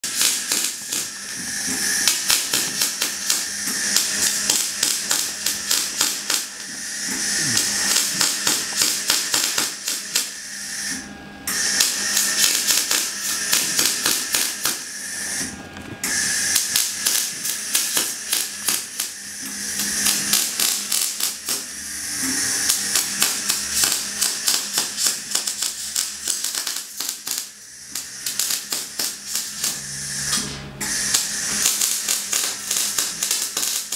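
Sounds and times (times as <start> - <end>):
arc welding crackling and hissing: 0.0 - 10.9, 11.5 - 33.9.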